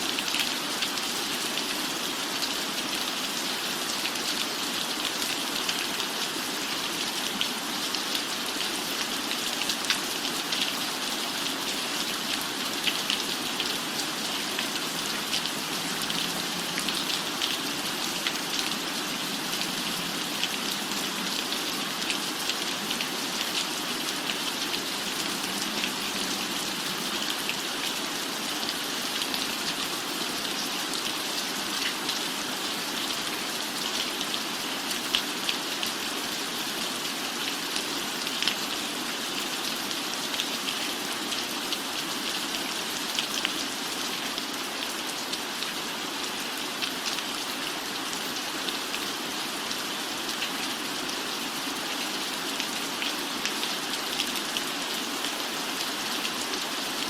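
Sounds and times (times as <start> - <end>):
rain falling on a roof: 0.0 - 57.0.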